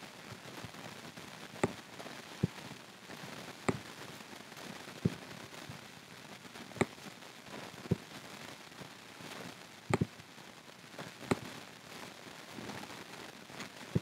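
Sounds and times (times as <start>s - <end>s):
faint hiss: 0.0s - 14.0s.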